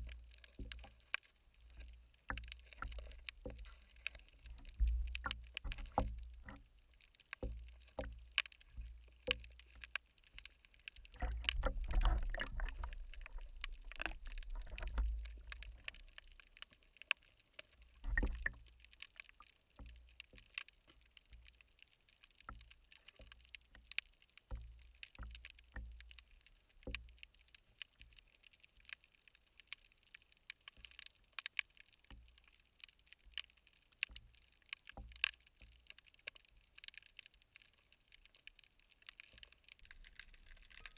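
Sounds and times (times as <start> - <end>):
low thumps and water rumble: 0.0 - 28.4, 31.8 - 40.9
underwater clicks and crackles: 0.0 - 40.9.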